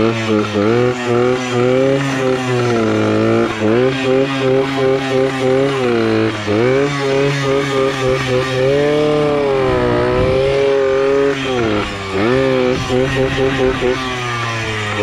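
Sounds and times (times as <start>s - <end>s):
motorbike engine revving: 0.0s - 15.0s.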